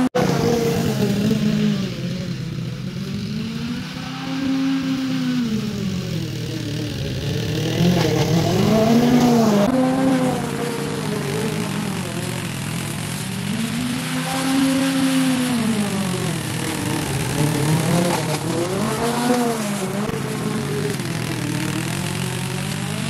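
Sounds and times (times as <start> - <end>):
small petrol engine running: 0.0 - 23.0.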